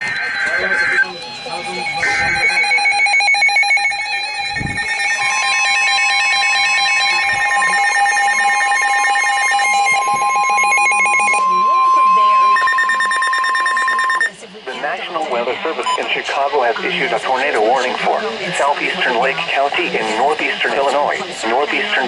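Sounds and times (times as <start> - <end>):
rapid pulsing electronic beeps: 0.0 - 22.0
steady warning alarm tone: 0.0 - 22.0.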